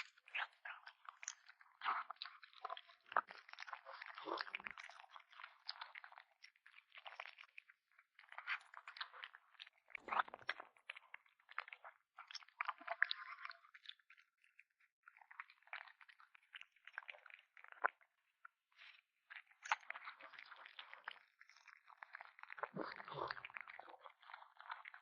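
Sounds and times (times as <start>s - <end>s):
kitten chewing and crunching: 0.0s - 25.0s.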